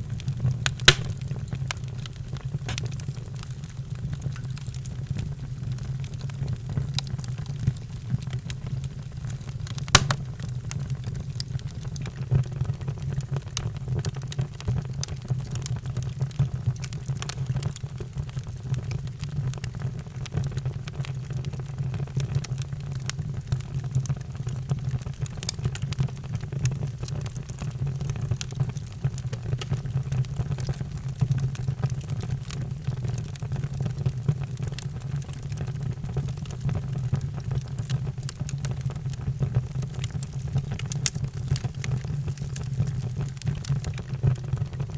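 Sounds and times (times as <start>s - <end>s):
fire crackling and popping: 0.0s - 44.9s
low fire rumble: 0.0s - 44.9s.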